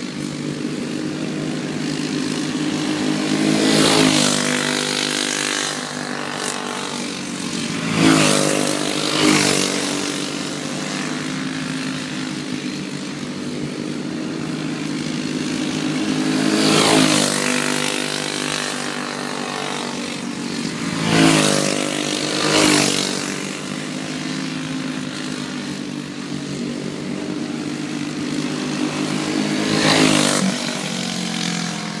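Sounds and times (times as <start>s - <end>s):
go-kart engines passing: 0.0s - 32.0s.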